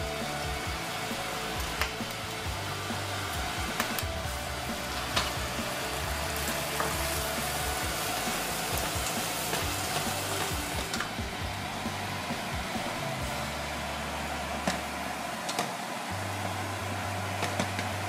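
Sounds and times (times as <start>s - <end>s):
sausage and garlic sizzling in pan: 0.0s - 18.0s.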